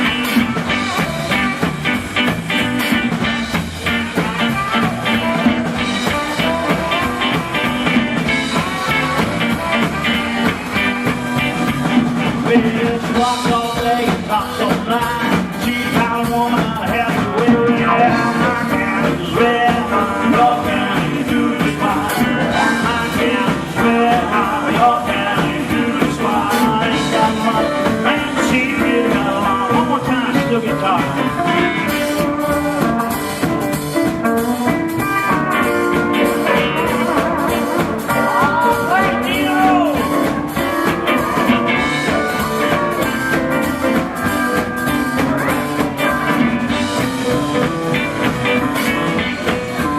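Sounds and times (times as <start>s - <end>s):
guitar: 0.0s - 49.9s
live rock and roll band: 0.0s - 49.9s
steady drum beat: 0.0s - 49.9s.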